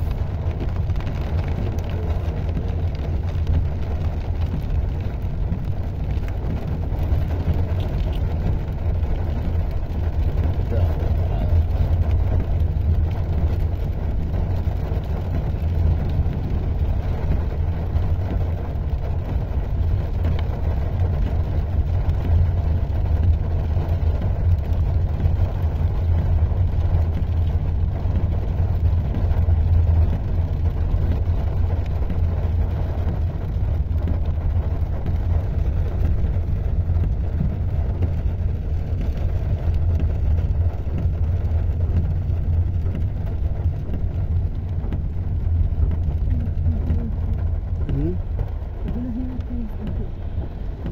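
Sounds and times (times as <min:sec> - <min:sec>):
car engine rumble from inside: 0:00.0 - 0:50.9
tyres on wet road: 0:00.0 - 0:50.9.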